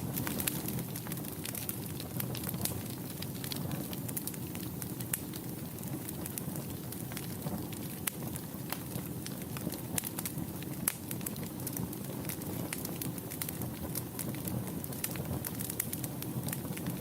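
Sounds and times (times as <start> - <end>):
fire crackling and popping: 0.0 - 17.0
low rumble of flame: 0.0 - 17.0.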